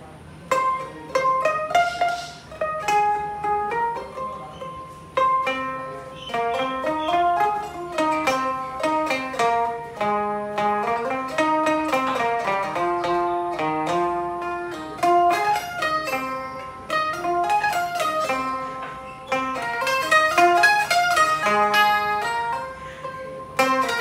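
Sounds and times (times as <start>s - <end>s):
plucked zither melody: 0.4s - 24.0s.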